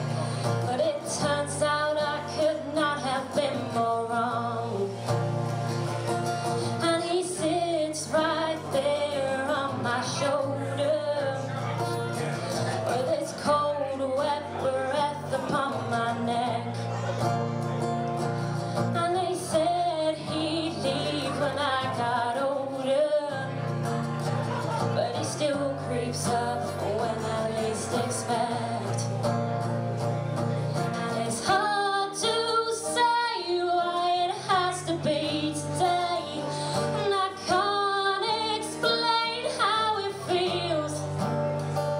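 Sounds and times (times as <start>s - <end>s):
woman singing: 0.0s - 5.2s, 6.6s - 11.6s, 12.8s - 16.9s, 18.8s - 23.7s, 24.8s - 29.2s, 30.8s - 41.3s
acoustic guitar: 0.0s - 41.9s.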